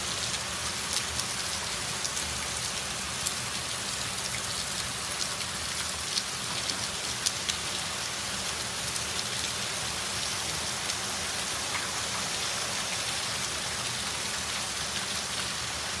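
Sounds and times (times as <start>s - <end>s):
rain on concrete: 0.0s - 16.0s.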